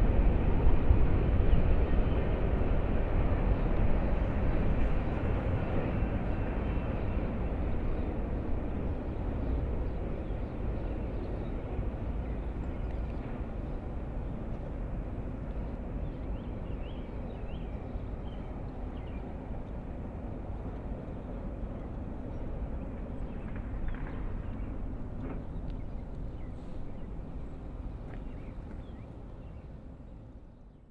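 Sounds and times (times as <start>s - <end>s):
freight train rumbling on track: 0.0s - 30.4s.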